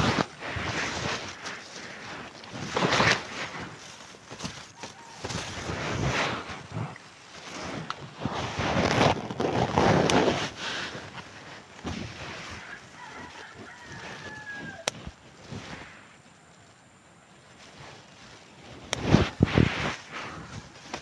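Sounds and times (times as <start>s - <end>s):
fabric rustling on microphone: 0.0s - 21.0s.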